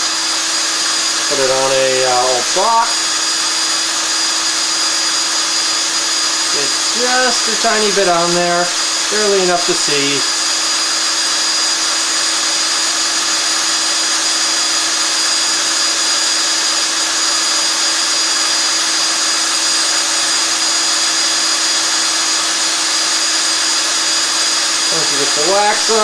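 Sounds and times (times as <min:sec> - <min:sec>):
electric drill whining: 0:00.0 - 0:26.0.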